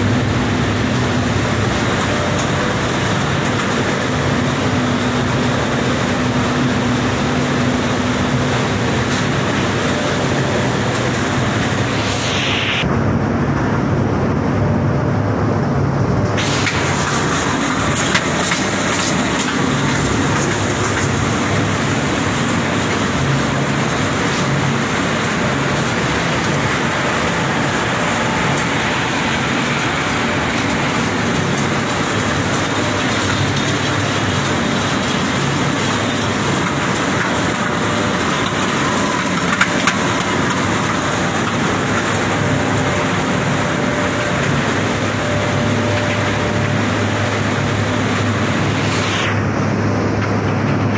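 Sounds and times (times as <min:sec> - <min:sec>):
loud machinery din: 0:00.0 - 0:50.9.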